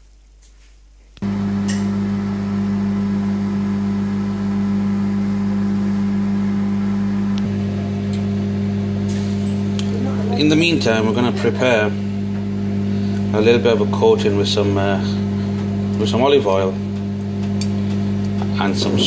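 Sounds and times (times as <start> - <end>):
microwave fan noise: 1.2 - 19.0
microwave oven humming: 1.2 - 19.0.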